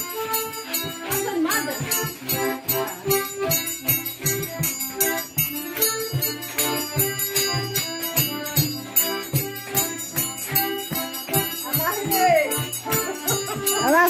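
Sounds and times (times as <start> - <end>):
lively music with steady beat: 0.0 - 14.0.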